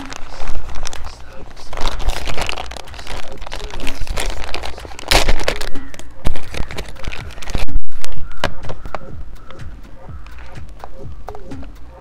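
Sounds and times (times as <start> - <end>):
plastic bag crinkling: 0.0 - 9.1, 10.2 - 11.0.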